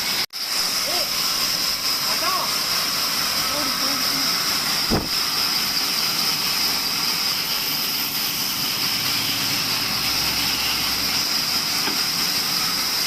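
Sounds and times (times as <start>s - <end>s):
sawmill running with high whine: 0.0s - 13.0s.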